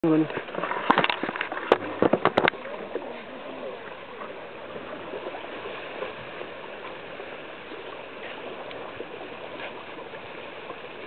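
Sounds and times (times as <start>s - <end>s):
small waves washing onto beach: 0.0s - 11.0s.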